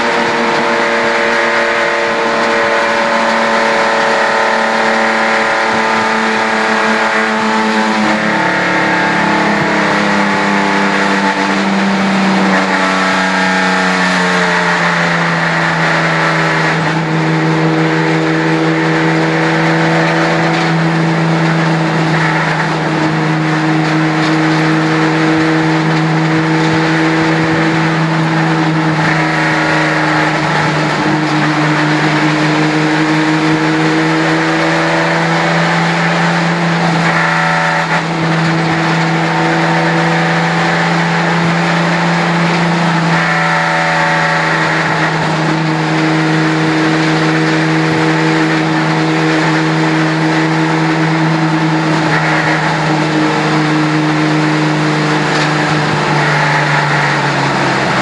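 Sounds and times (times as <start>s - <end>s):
other cars' engines: 0.0s - 58.0s
race car engine from inside cabin: 0.0s - 58.0s.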